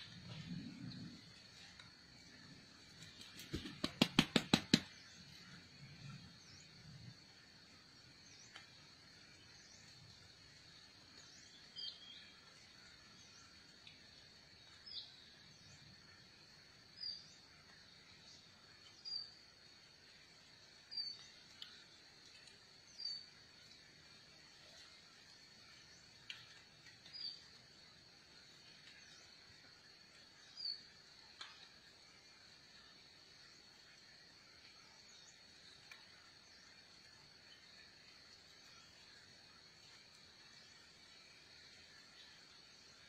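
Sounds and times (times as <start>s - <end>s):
high insect drone: 0.0s - 43.0s.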